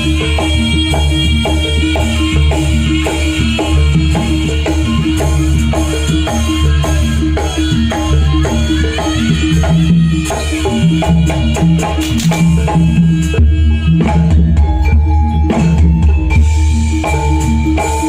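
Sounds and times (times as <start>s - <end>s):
percussion ensemble music: 0.0s - 18.0s.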